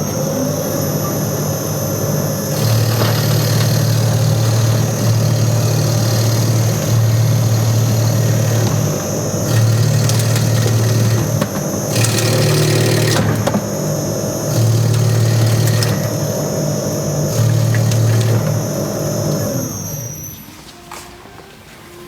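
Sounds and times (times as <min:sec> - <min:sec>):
meat shredding machine humming: 0:00.0 - 0:20.6.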